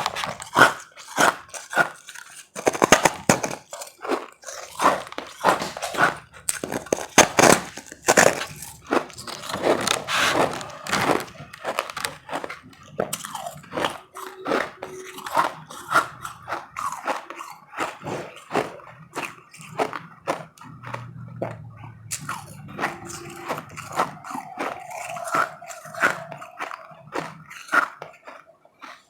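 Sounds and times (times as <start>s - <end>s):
chewing crunchy ice: 0.0s - 29.0s.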